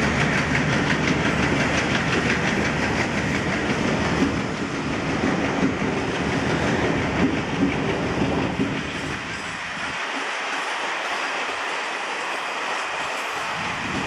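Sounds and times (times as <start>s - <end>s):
train low rumble: 0.0s - 14.0s
wheels clattering over rail joints: 0.0s - 14.0s.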